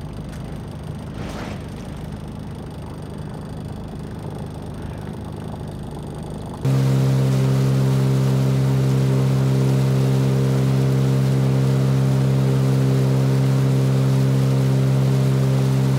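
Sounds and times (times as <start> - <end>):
motorboat engine running: 0.0 - 15.9.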